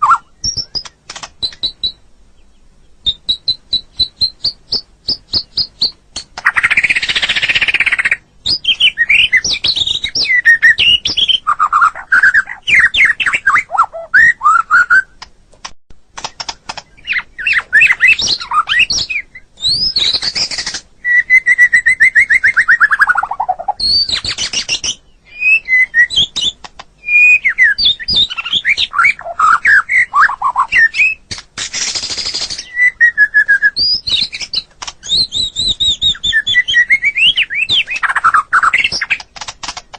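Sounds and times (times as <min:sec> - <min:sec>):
songbird whistling and trilling: 0:00.0 - 0:15.2, 0:16.8 - 0:39.3.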